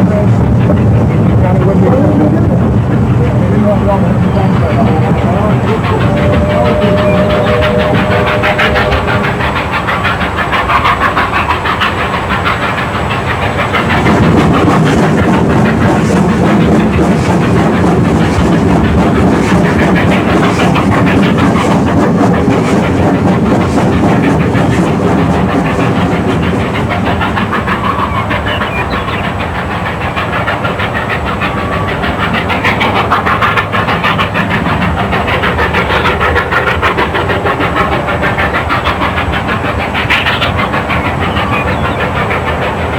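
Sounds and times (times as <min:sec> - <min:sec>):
steam hissing: 0:00.0 - 0:42.9
train cars clattering on rails: 0:00.0 - 0:42.9.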